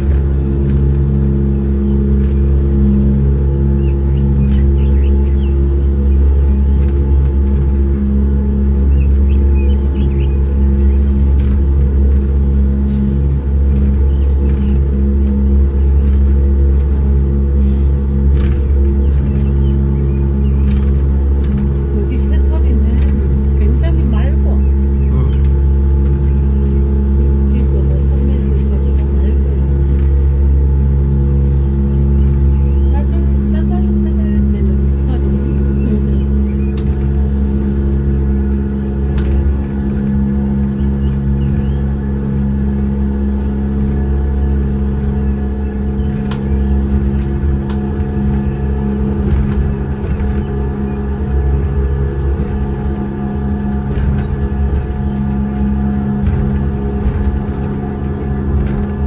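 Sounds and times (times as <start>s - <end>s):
engine droning hum: 0.0s - 59.0s.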